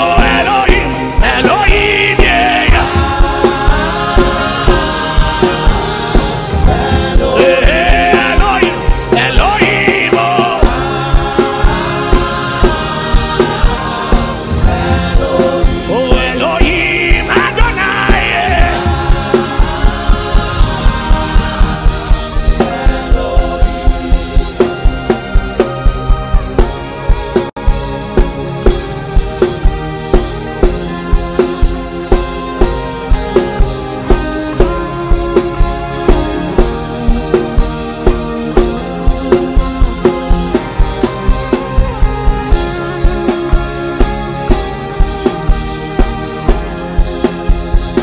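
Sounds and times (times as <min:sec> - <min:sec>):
fast drum beat: 0:00.0 - 0:48.0
gospel music with singing: 0:00.0 - 0:48.0
sustained instrument chords: 0:00.0 - 0:48.0.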